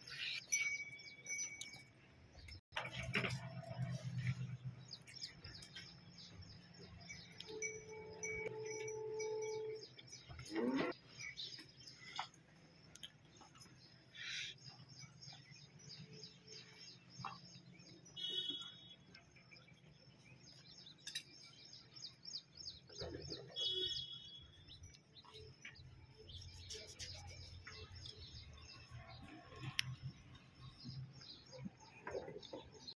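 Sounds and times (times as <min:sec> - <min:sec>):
small birds chirping: 0:04.0 - 0:32.9.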